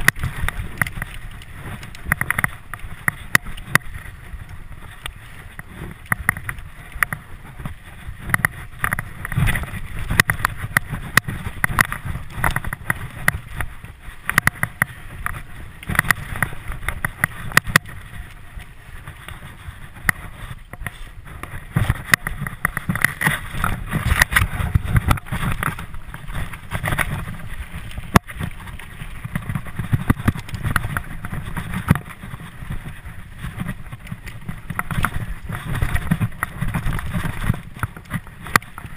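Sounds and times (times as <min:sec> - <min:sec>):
bike rattling over bumps: 0:00.0 - 0:38.9
bike tyres rumbling on dirt: 0:00.0 - 0:38.9.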